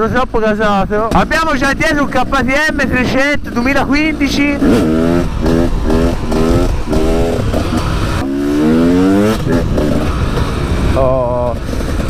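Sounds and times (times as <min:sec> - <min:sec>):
dirt bike engine accelerating: 0:00.0 - 0:12.0.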